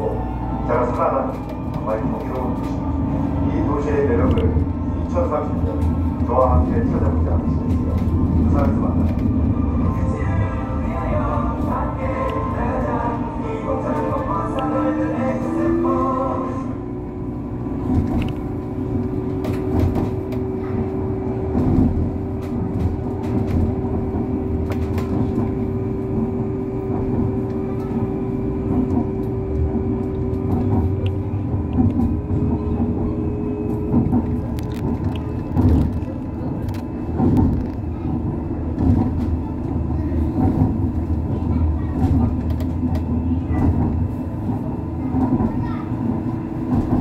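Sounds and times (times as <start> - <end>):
light-rail train rumbling: 0.0 - 47.0
train whine: 0.0 - 47.0.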